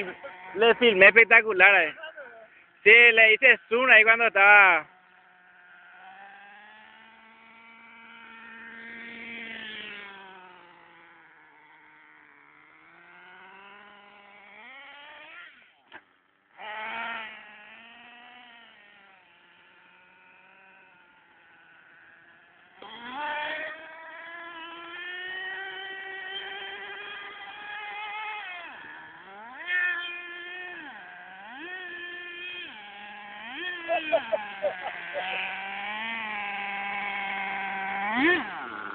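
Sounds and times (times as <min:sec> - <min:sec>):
toy truck engine revving: 0:03.6 - 0:38.9.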